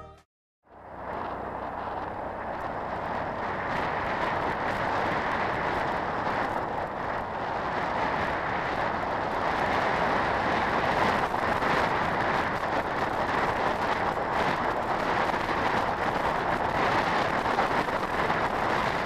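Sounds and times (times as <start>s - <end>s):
scooter road noise: 0.7s - 19.0s
wind rush: 0.8s - 19.0s.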